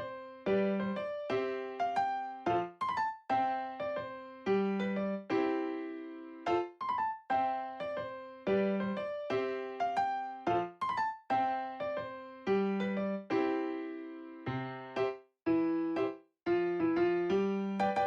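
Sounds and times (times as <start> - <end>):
gentle piano melody: 0.0 - 18.0.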